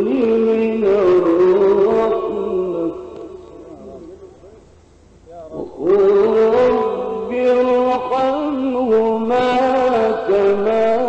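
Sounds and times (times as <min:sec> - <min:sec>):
man chanting: 0:00.0 - 0:04.6, 0:05.3 - 0:11.0.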